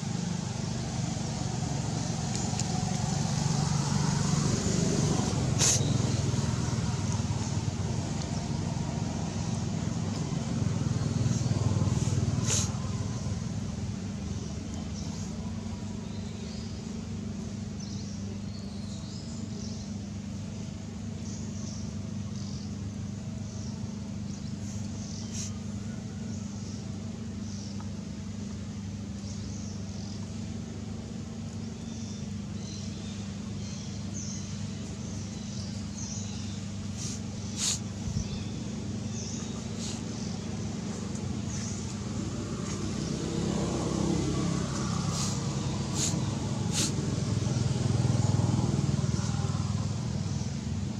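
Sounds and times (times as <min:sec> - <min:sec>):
low engine hum: 0:00.0 - 0:50.9.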